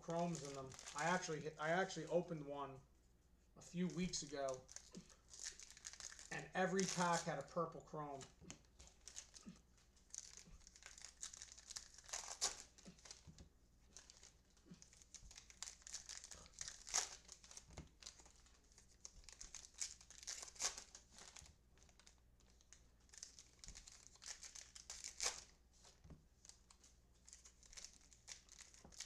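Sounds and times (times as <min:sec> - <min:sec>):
wrappers crinkling and tearing: 0:00.0 - 0:02.2, 0:03.7 - 0:29.0.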